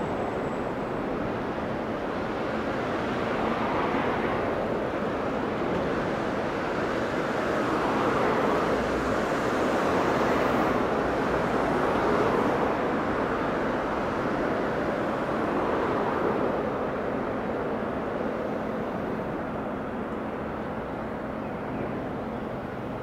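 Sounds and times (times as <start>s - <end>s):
road traffic rushing: 0.0s - 23.0s.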